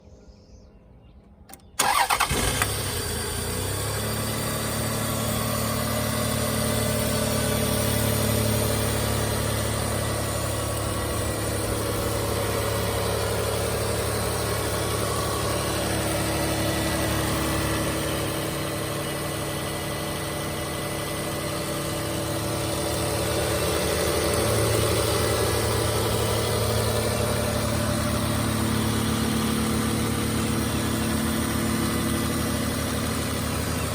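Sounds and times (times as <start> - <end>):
car engine cranking and idling: 1.5 - 33.9.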